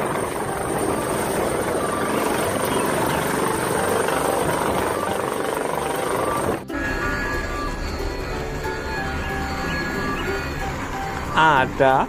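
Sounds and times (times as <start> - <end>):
helicopter hovering: 0.0 - 12.0
high engine whine: 0.0 - 12.0.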